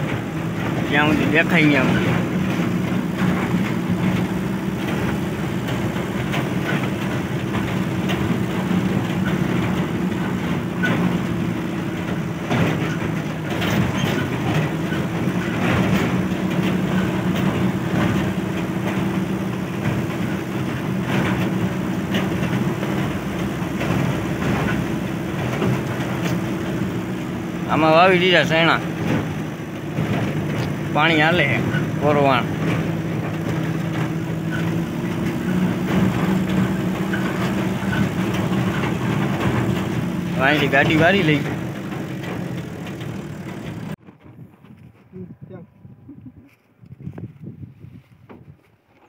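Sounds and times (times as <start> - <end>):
diesel engine running: 0.0 - 44.8
truck body rattling: 0.0 - 45.1.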